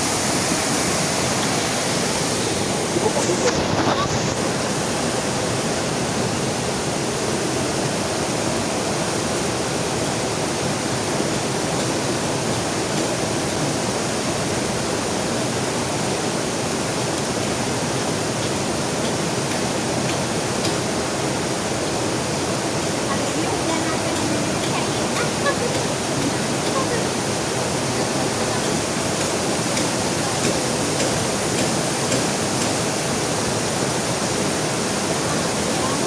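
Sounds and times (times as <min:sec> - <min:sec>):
heavy rain: 0:00.0 - 0:36.0
river flowing: 0:00.0 - 0:36.0.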